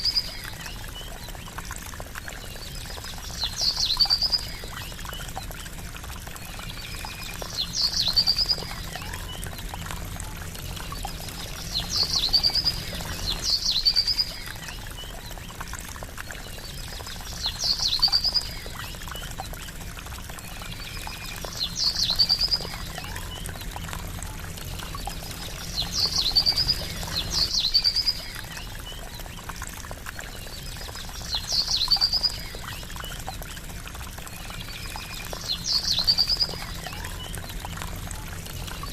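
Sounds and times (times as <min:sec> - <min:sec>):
water trickling: 0:00.0 - 0:38.9
bird chirp and trill: 0:02.5 - 0:15.6, 0:16.2 - 0:19.8, 0:20.5 - 0:29.4, 0:30.2 - 0:33.7, 0:34.4 - 0:38.9.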